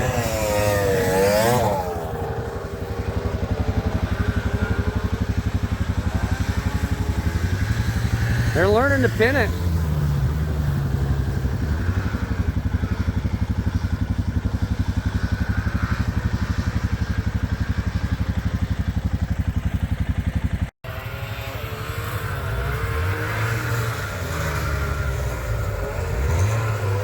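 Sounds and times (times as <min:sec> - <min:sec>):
snowmobile engine pulsing: 0:00.0 - 0:27.0
snowmobiles revving: 0:00.0 - 0:27.0.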